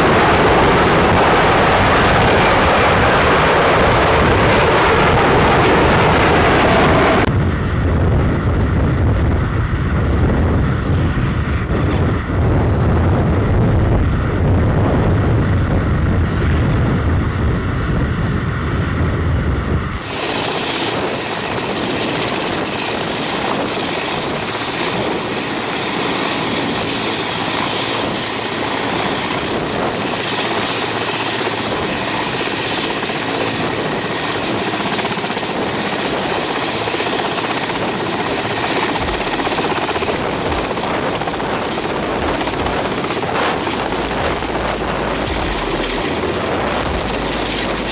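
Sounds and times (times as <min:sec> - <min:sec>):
helicopter rumble: 0:00.0 - 0:47.9
turbine whine: 0:00.0 - 0:47.9.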